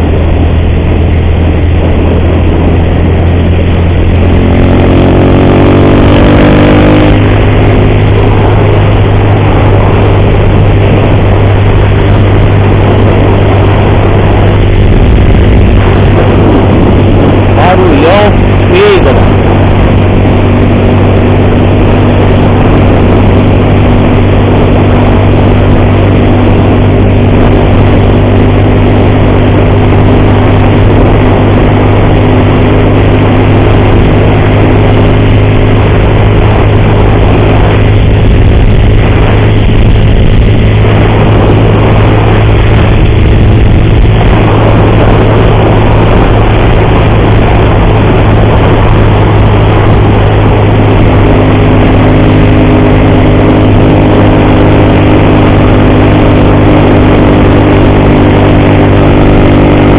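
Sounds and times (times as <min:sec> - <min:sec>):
motorcycle engine cruising: 0:00.0 - 0:59.9
rush of riding noise: 0:00.0 - 0:59.9.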